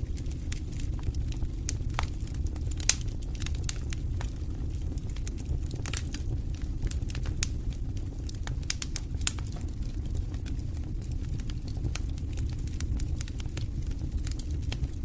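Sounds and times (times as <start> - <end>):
campfire crackling and popping: 0.0 - 15.0
steady low rumble: 0.0 - 15.0.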